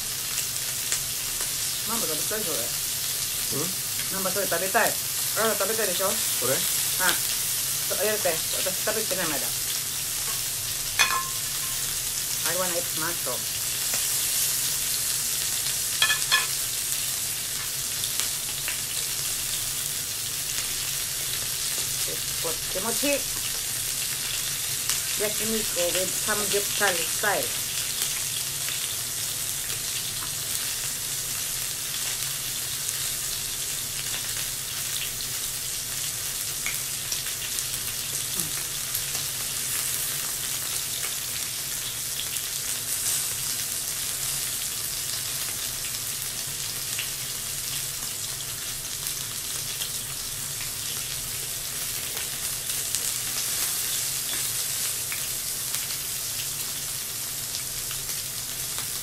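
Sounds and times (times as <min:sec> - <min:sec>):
meat sizzling on a grill: 0:00.0 - 0:59.0.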